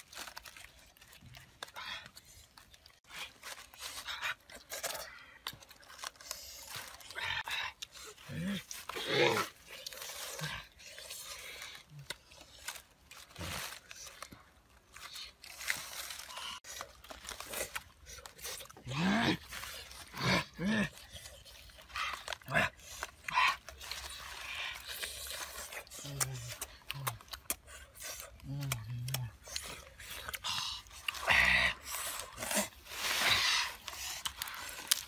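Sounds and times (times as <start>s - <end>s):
meat crunching and tearing: 0.0s - 35.0s
people chewing and smacking: 0.0s - 35.0s.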